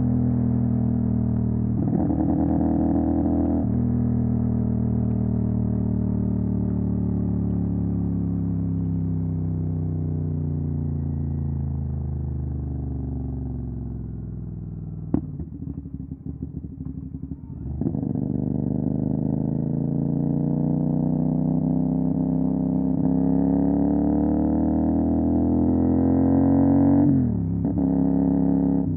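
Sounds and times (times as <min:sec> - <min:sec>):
motorcycle engine: 0:00.0 - 0:28.9.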